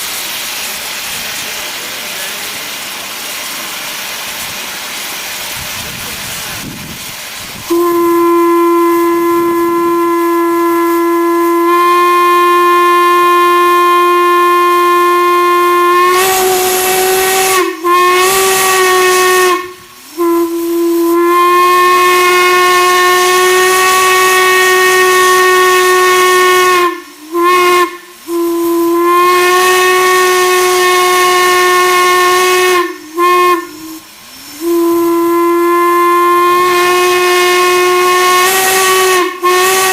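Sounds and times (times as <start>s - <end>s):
steam hissing: 0.0s - 39.9s
steam whistle blowing: 7.6s - 39.9s.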